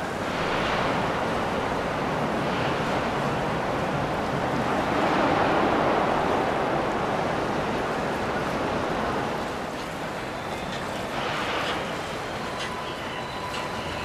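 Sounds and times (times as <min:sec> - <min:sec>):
water rushing in boat wake: 0:00.0 - 0:14.0.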